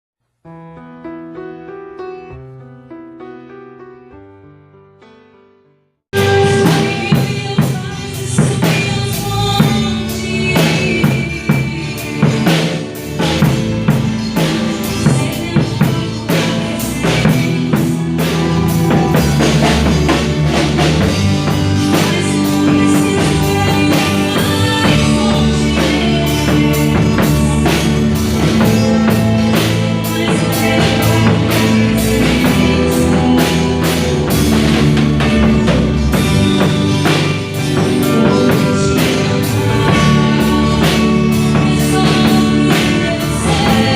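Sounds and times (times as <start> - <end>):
bass: 6.1 - 43.9
drum kit with snare and rimshots: 6.1 - 43.9
sustained keyboard or guitar chords: 6.1 - 43.9.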